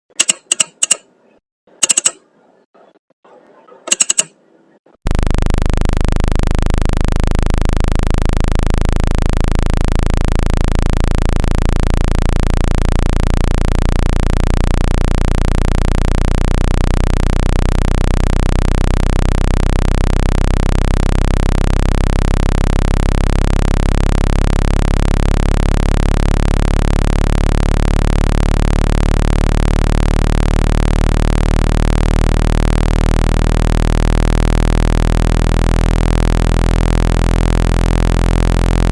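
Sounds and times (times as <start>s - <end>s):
loud electronic buzz: 5.1s - 38.9s.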